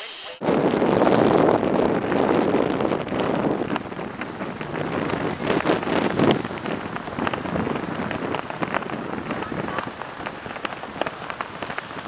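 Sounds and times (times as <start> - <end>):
crackles: 0.2 - 12.0
wind buffeting microphone: 0.4 - 12.0.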